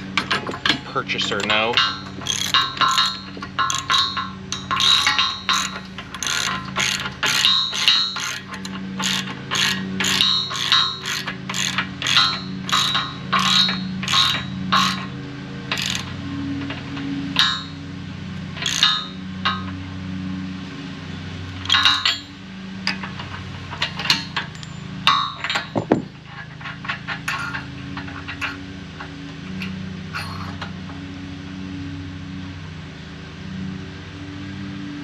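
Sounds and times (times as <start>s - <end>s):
metal tools and parts clanking: 0.0s - 17.8s, 18.5s - 19.8s, 21.6s - 30.8s
steady low hum: 0.0s - 35.0s.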